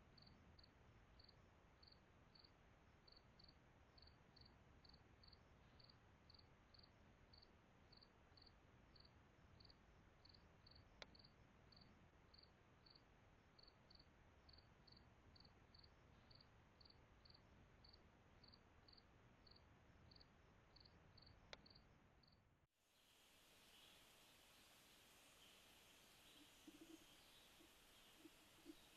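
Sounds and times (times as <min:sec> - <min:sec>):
faint cricket chirping: 0:00.0 - 0:28.9.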